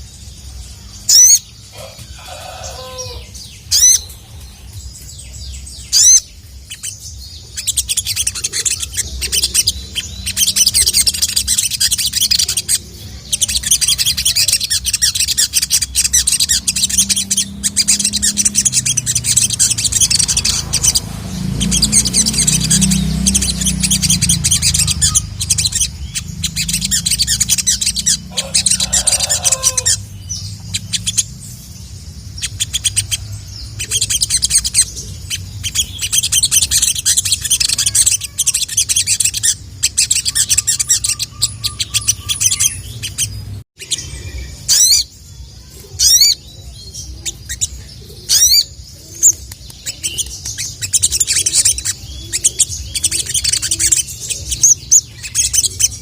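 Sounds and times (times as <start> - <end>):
sunbird chittering trill: 0.0 - 56.0.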